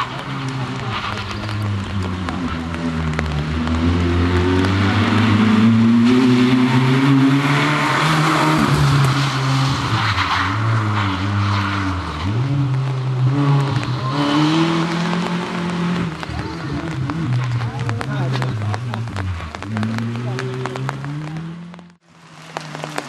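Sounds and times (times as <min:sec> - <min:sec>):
rally car engine revving: 0:00.0 - 0:23.0
tyre and road noise: 0:00.0 - 0:23.0.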